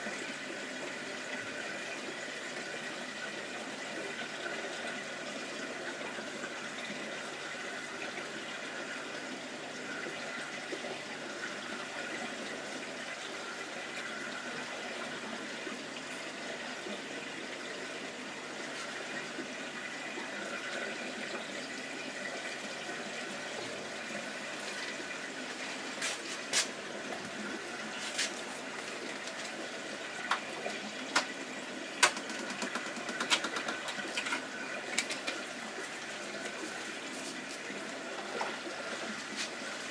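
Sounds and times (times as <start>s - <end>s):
aquarium air bubbles: 0.0s - 39.9s.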